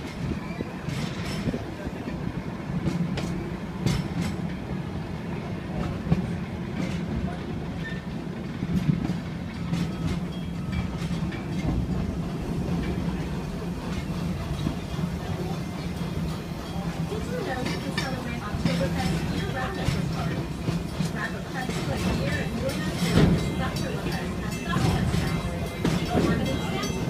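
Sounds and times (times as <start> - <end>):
train rumbling on track: 0.0 - 27.0
wheel and rail clacks: 0.0 - 27.0.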